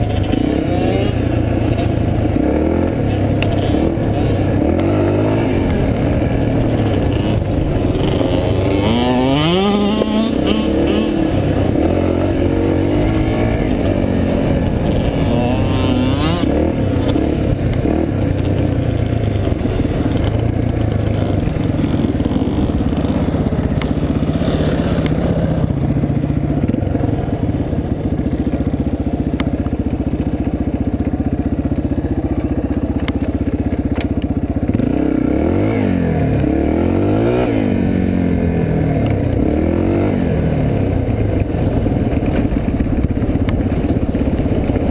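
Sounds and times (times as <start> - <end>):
dirt bike engine revving: 0.0 - 29.4, 34.6 - 44.9.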